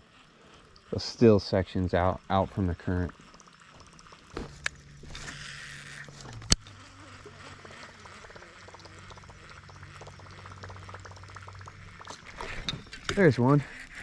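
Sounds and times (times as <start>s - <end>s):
electric motor humming: 0.0s - 14.0s
faint ticking: 0.0s - 14.0s
water gurgling: 0.0s - 14.0s.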